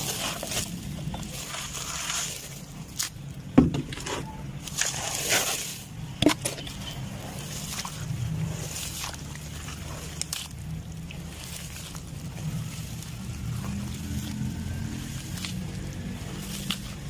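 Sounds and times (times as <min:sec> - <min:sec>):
dry material crumbling and crunching: 0:00.0 - 0:17.0.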